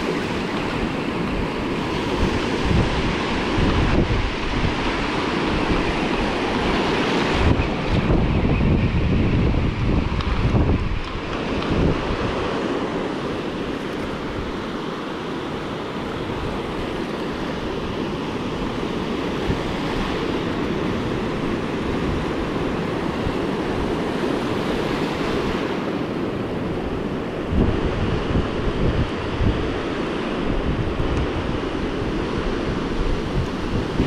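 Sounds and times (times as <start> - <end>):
ocean surf breaking on beach: 0.0 - 34.0.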